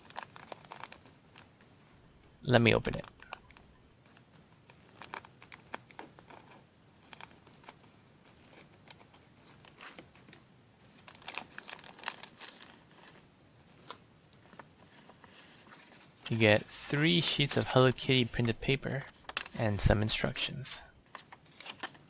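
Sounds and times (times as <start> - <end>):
wrapper crinkling and tearing: 0.0 - 1.6, 2.9 - 19.6, 21.1 - 22.0.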